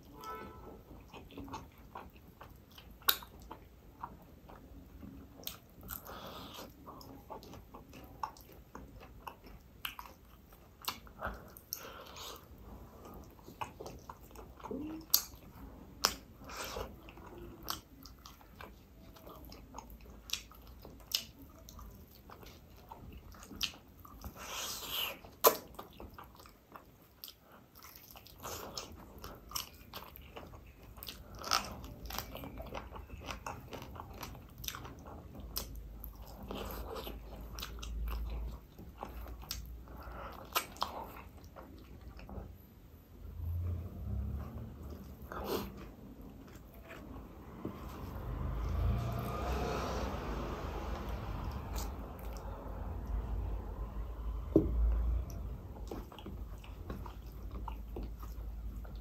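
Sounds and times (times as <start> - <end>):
man chewing food: 0.0 - 59.0.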